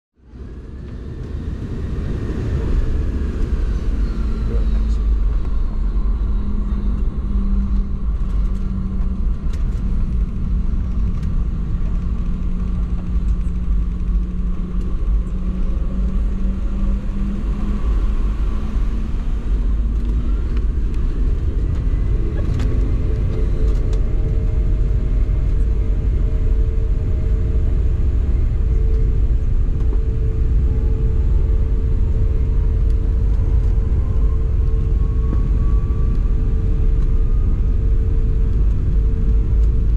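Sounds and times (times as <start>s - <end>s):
airliner rolling rumble: 0.2s - 39.9s
jet engine hum: 0.2s - 39.9s.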